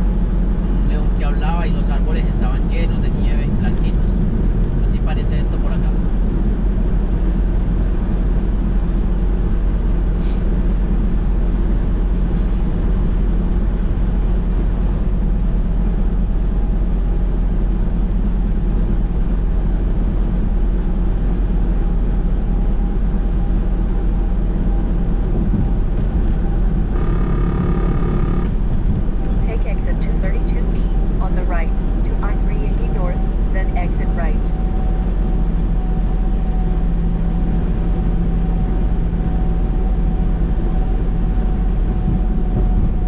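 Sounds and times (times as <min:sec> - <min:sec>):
road noise: 0:00.0 - 0:43.0
truck diesel engine drone: 0:00.0 - 0:43.0.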